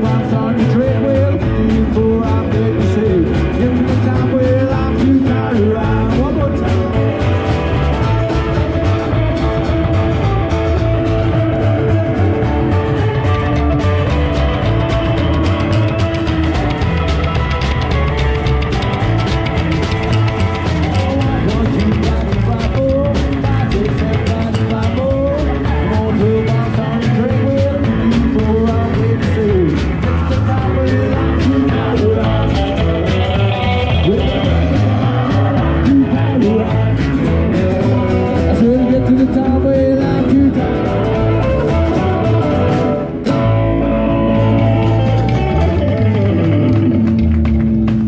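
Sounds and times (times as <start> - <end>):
electric guitar: 0.0 - 48.0
rock band playing instrumental: 0.0 - 48.0.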